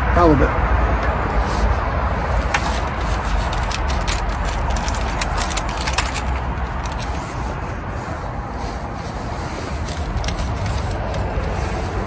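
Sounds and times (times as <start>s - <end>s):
parchment paper crackling: 1.4s - 12.0s.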